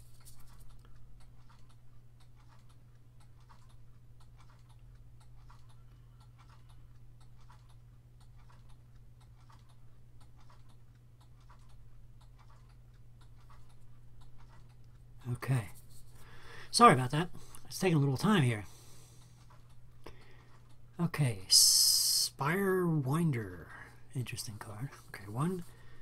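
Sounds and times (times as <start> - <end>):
light regular ticking: 0.0 - 26.0
steady low hum: 0.0 - 26.0.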